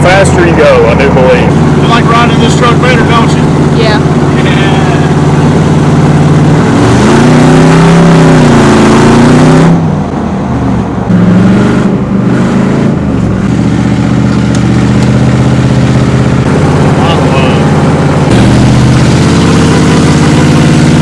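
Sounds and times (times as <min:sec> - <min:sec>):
truck engine droning in cab: 0:00.0 - 0:21.0.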